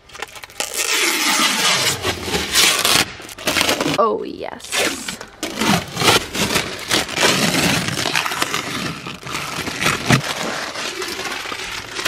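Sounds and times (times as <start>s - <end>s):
plastic film crinkling as peeled: 0.0s - 4.0s, 4.7s - 12.0s.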